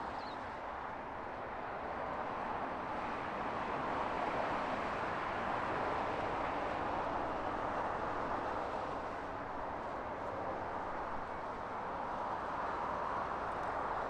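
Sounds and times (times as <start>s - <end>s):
motorway traffic: 0.0s - 14.0s.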